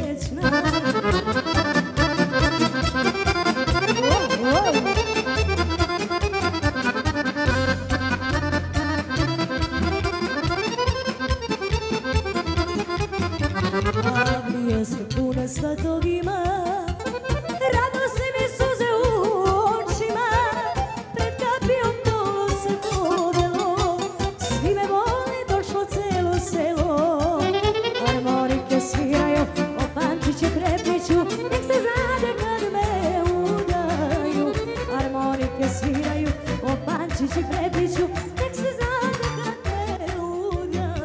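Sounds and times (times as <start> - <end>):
accordion melody: 0.0 - 41.0.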